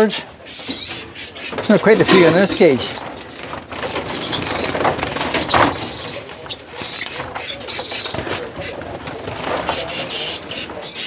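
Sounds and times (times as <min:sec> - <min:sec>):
birds fluttering in a cage: 0:00.0 - 0:11.0.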